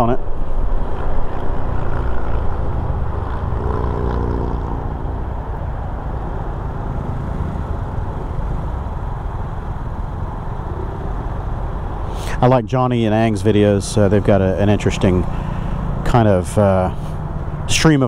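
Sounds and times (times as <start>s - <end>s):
scooter engine drone: 0.2s - 18.0s.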